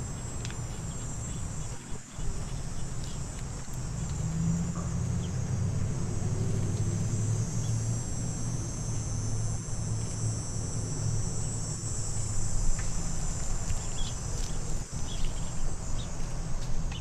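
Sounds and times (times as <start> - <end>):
high-pitched insect chorus: 0.0 - 17.0
low steady hum: 0.0 - 17.0.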